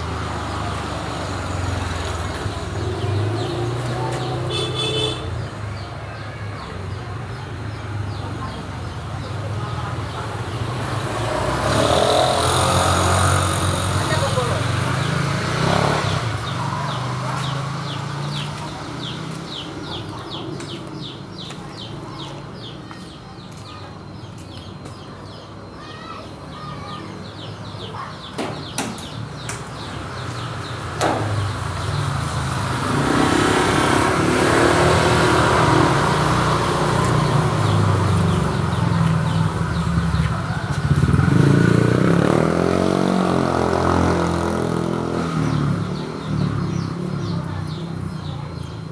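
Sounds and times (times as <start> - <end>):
vehicle engines passing: 0.0 - 48.9.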